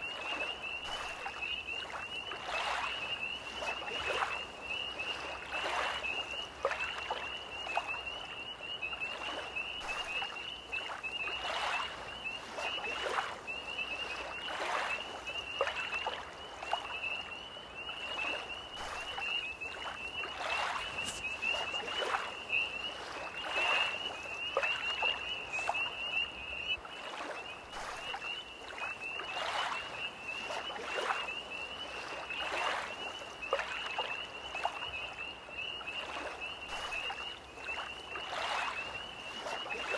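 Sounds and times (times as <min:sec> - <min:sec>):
tree frogs trilling: 0:00.0 - 0:39.9
waves lapping at shore: 0:00.0 - 0:39.9.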